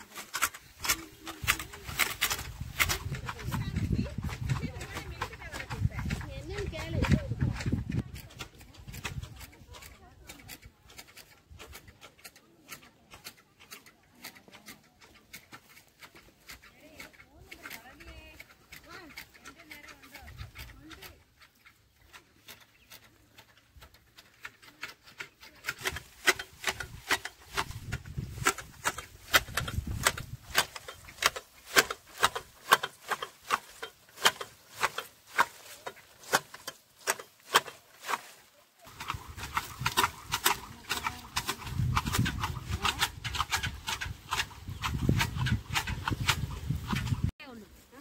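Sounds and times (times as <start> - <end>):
shears snipping tea shoots: 0.0 - 48.0.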